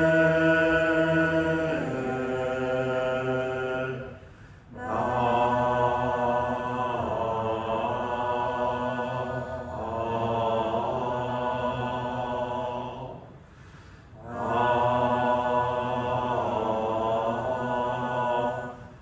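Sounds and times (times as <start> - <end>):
chanting on long held notes: 0.0 - 13.3, 14.1 - 19.0.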